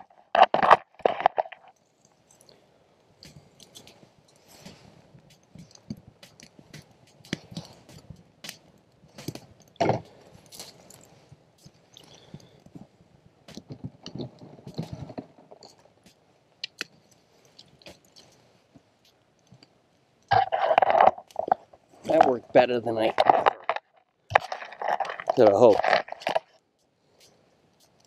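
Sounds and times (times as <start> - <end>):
rustling of tinder: 0.0 - 28.0
small fire crackling: 0.0 - 28.0.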